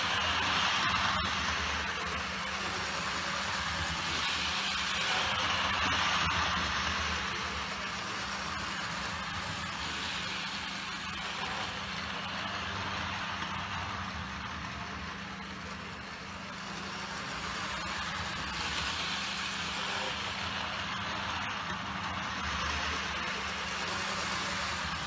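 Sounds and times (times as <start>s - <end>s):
model train motor and wheels: 0.0s - 25.0s.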